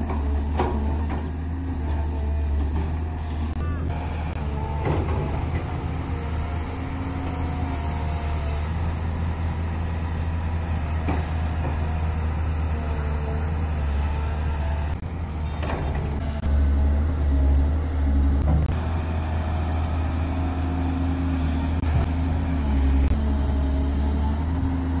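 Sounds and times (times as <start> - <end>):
excavator diesel engine droning: 0.0 - 25.0.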